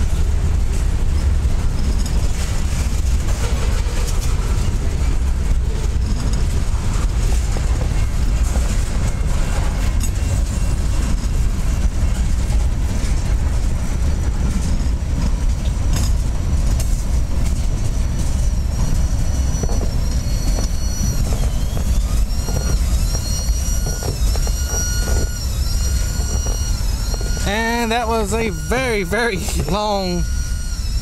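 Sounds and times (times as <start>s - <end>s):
high wheel squeal: 0.0s - 16.0s, 16.9s - 31.0s
freight train rumbling: 0.0s - 31.0s.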